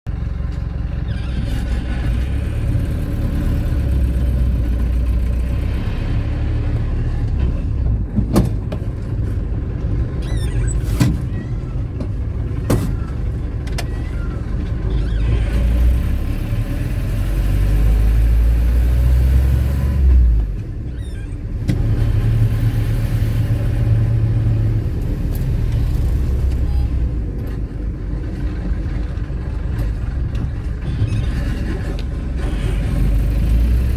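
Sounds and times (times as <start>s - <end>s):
car engine and road rumble: 0.1s - 33.9s.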